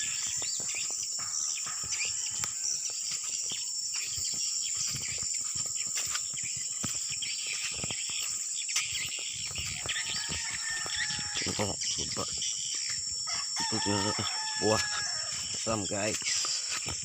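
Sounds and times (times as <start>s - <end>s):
bird chirps: 0.0s - 17.0s
insects trilling: 0.0s - 17.0s.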